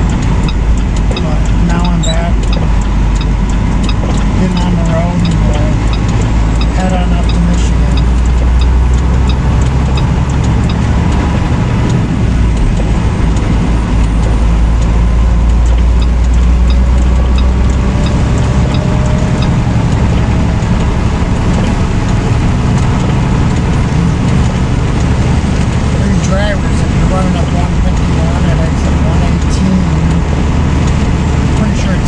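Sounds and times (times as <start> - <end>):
road noise: 0.0 - 32.0
truck engine drone: 0.0 - 32.0.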